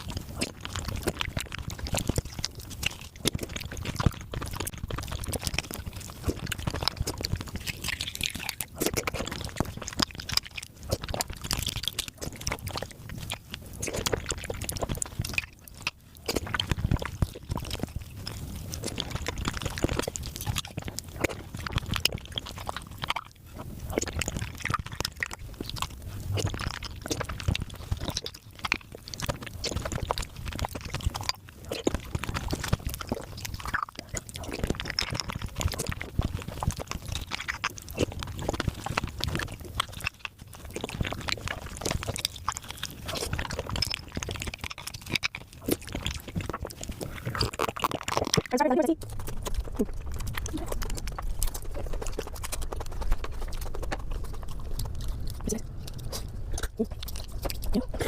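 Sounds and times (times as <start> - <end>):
slurping: 0.0 - 58.0
wet chewing: 0.0 - 58.0.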